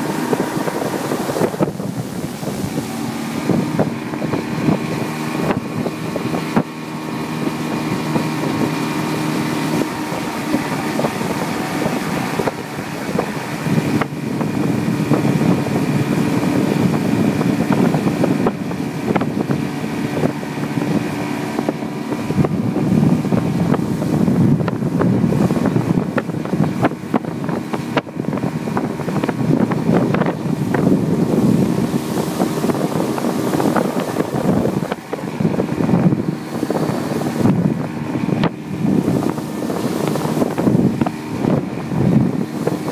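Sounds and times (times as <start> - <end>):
outboard motor running: 0.0 - 42.9
water rushing: 0.0 - 42.9
wind buffeting the microphone: 0.0 - 42.9.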